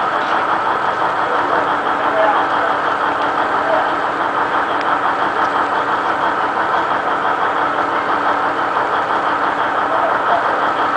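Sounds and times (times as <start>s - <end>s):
diesel locomotive engine idling: 0.0s - 10.9s.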